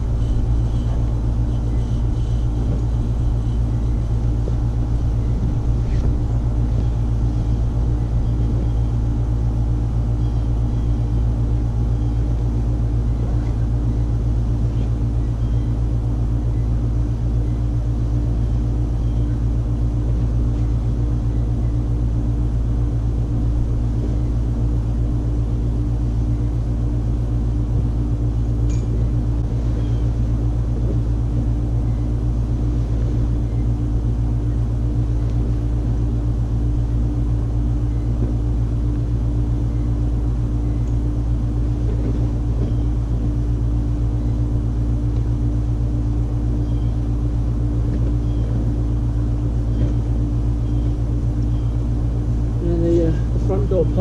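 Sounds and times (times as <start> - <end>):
low mechanical motor hum: 0.0 - 54.0.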